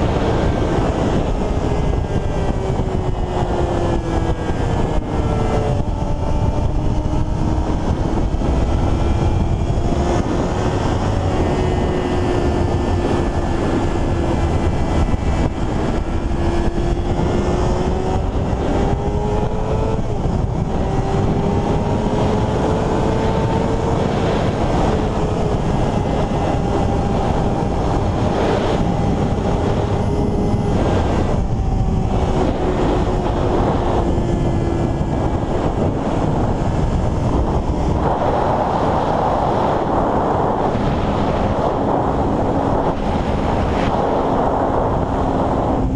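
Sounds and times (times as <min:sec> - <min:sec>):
motorcycle engine running: 0:00.0 - 0:45.9
wind noise rumble: 0:00.0 - 0:45.9.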